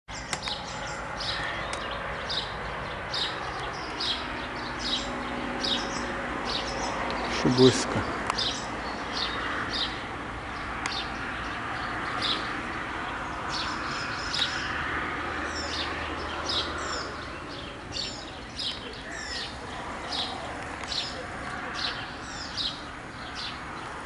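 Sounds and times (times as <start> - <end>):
birds chirping: 0.1 - 24.0.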